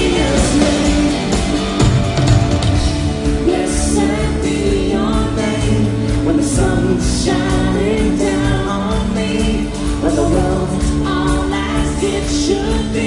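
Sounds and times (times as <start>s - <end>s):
song with singing and instruments: 0.0s - 13.0s.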